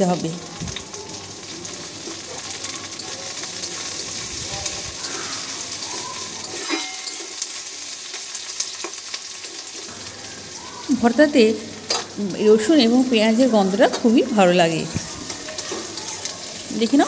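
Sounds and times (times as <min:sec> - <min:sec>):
onion and garlic sizzling in oil: 0:00.0 - 0:17.0
stirring in a pan: 0:00.4 - 0:17.0.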